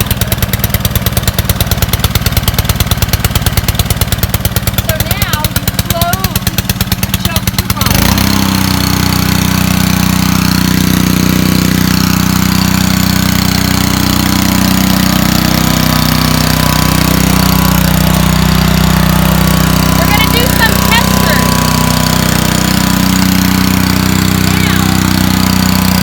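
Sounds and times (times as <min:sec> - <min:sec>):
pressure washer gas engine running: 0:00.0 - 0:26.0.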